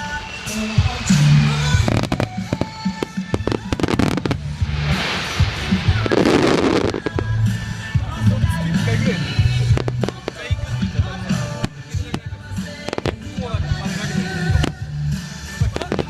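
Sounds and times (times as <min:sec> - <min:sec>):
fireworks bangs: 0:00.0 - 0:16.0
fireworks crackling: 0:00.0 - 0:16.0
music playing: 0:00.0 - 0:16.0.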